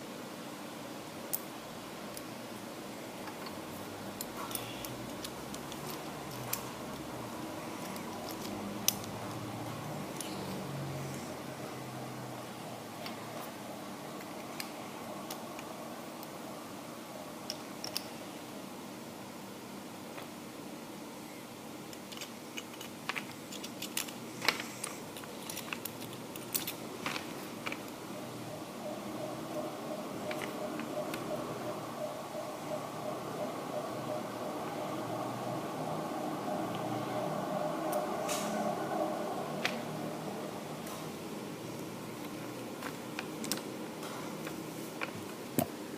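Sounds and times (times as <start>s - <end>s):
faint steady low hum: 0.0s - 45.9s.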